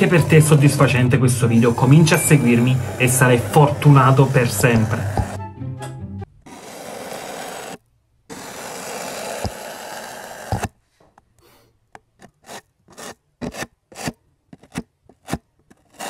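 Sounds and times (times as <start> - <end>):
hot tip scraping foam: 0.0 - 5.4, 6.4 - 10.8, 12.2 - 16.0.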